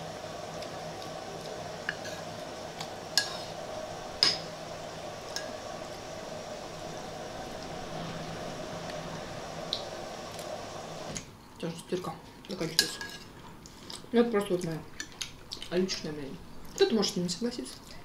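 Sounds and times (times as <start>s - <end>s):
washing machine hum: 0.0s - 18.0s.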